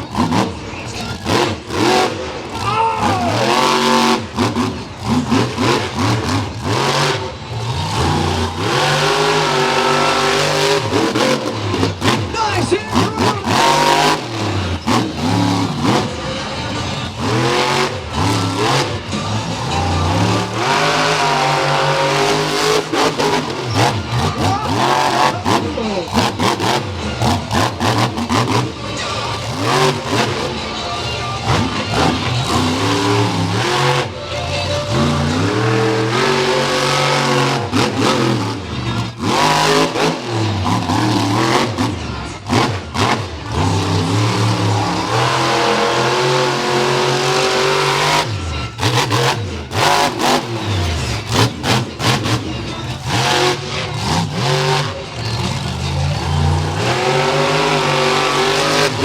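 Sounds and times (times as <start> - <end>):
truck engine revving hard: 0.0 - 59.0.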